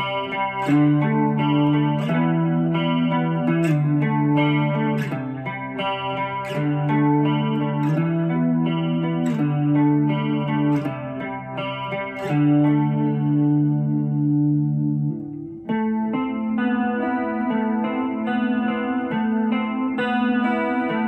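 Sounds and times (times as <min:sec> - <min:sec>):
electric guitar picked chords: 0:00.0 - 0:21.0.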